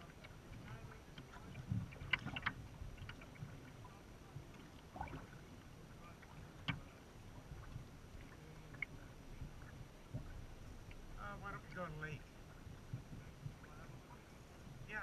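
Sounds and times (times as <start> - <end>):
water lapping and dripping: 0.0 - 15.0.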